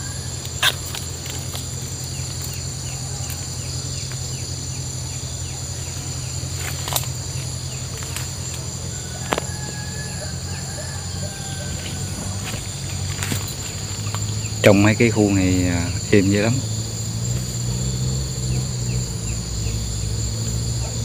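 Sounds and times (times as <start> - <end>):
high-pitched insect drone: 0.0 - 21.0
low steady hum: 0.0 - 21.0.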